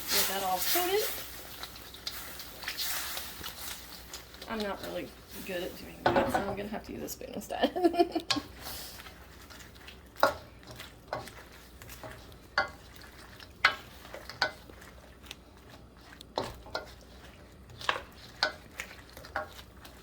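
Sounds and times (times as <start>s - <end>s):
spoon scraping a wok: 0.0s - 6.6s, 8.3s - 15.0s, 15.6s - 20.0s
faint sizzle: 0.0s - 20.0s.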